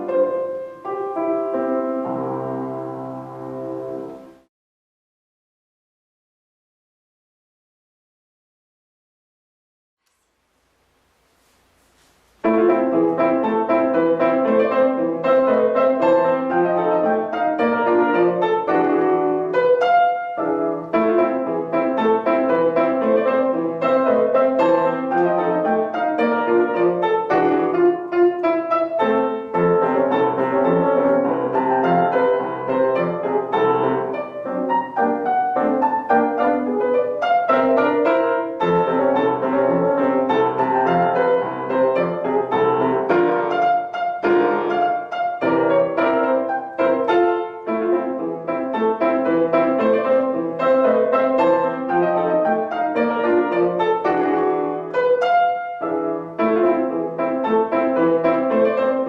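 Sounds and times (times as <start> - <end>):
solo piano classical piece: 0.0 - 4.5, 10.1 - 59.0.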